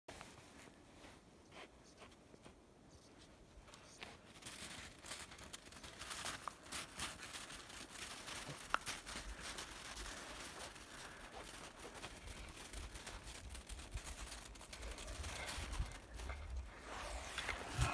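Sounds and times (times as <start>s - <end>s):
faint rustling and crunching: 0.1s - 17.9s.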